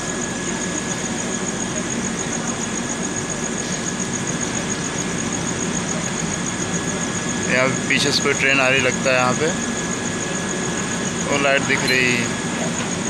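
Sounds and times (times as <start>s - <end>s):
railway machinery idling hum: 0.0s - 13.0s.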